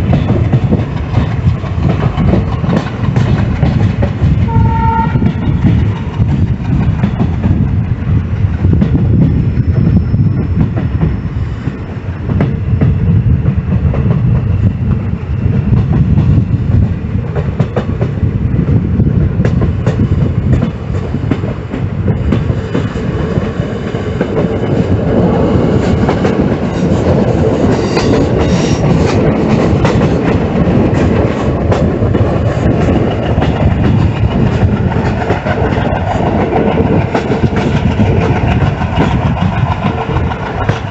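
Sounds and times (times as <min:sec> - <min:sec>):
train wheels clattering on rails: 0:00.0 - 0:40.9.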